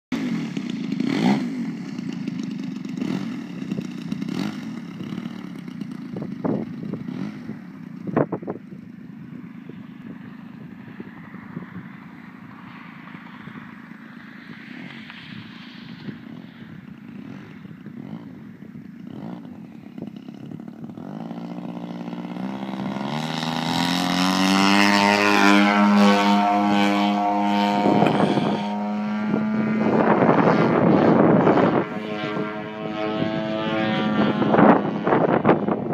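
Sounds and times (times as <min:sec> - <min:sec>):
model airplane engine: 0:00.1 - 0:35.9.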